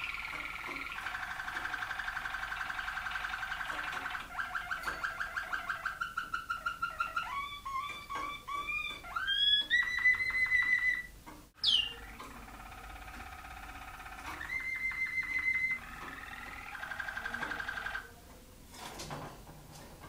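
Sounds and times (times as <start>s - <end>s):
canary singing trills: 0.0s - 18.1s.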